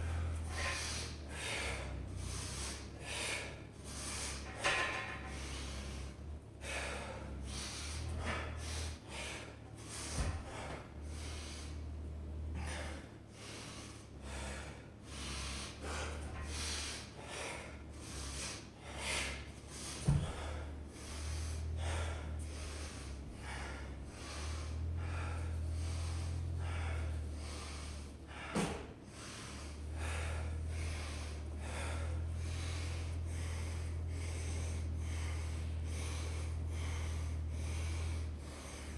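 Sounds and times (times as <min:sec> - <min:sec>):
person breathing hard: 0:00.0 - 0:38.9
steady low hum: 0:00.0 - 0:38.9.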